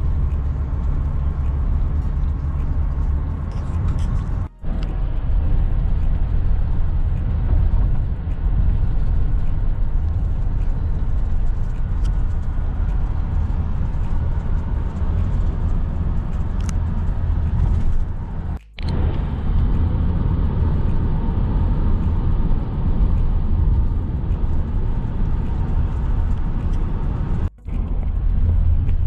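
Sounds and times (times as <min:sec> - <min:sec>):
tyre and engine rumble inside car: 0:00.0 - 0:29.0.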